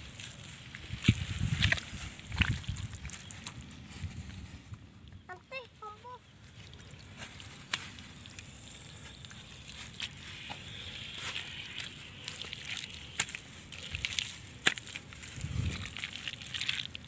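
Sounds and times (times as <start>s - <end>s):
hand packing wet mud: 0.0s - 4.8s, 6.4s - 17.0s
crackles and clicks of soil: 0.0s - 5.6s, 6.3s - 17.0s.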